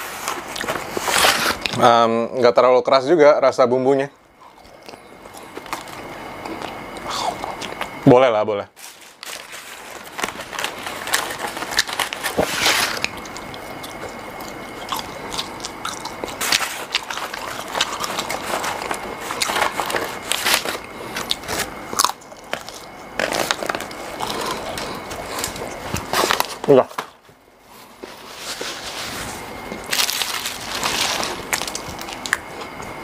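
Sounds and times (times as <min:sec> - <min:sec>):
crunching fries: 0:04.6 - 0:08.0, 0:08.8 - 0:27.1, 0:28.1 - 0:33.0.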